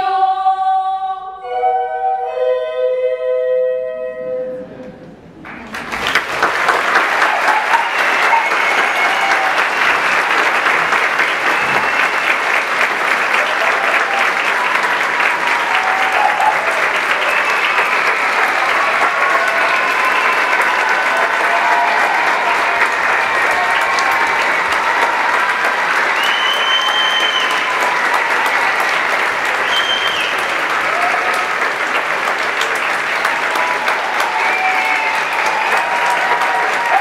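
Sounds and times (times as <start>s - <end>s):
audience applauding: 5.4s - 37.0s
voices cheering: 5.6s - 37.0s
high-pitched cheers: 6.0s - 37.0s.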